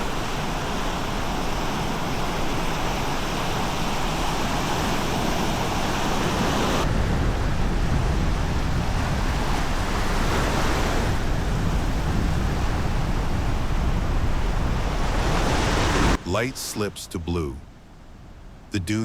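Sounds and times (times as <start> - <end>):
surf washing onto beach: 0.0 - 17.6
wind: 0.0 - 19.0.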